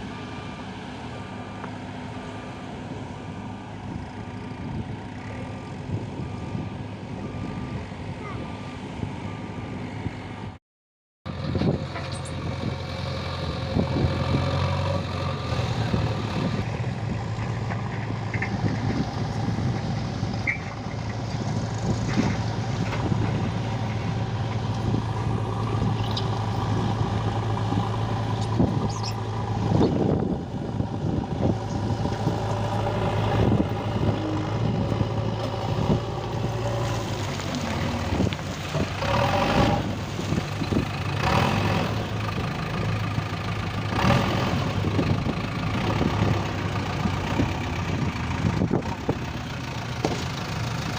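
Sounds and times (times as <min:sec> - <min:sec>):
diesel engine running: 0:00.0 - 0:10.6, 0:11.3 - 0:50.9.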